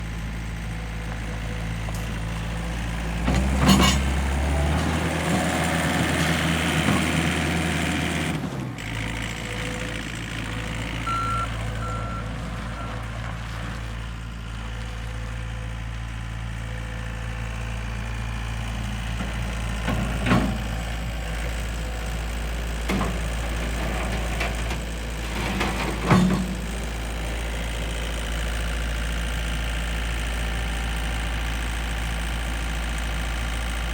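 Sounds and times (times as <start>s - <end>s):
skid steer loader engine running: 0.0s - 33.9s.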